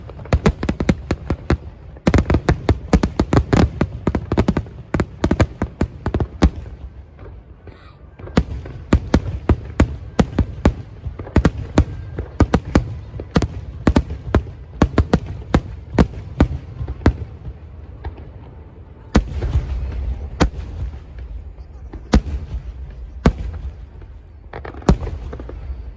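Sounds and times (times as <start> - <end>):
fireworks bursting with sharp bangs: 0.0 - 25.9.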